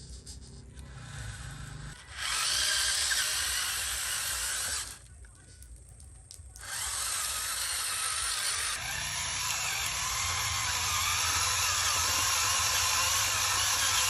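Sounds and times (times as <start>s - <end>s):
small power drill running: 0.8s - 5.0s, 6.6s - 14.0s.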